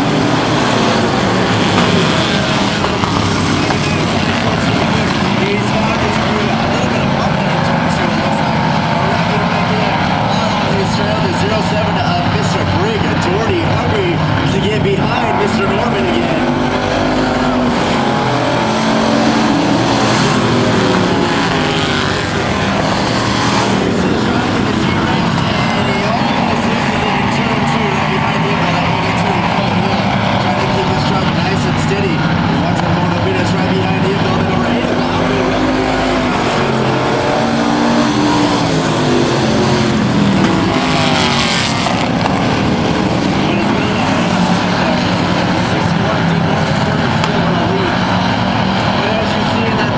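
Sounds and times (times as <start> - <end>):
racing truck engines passing: 0.0 - 49.9.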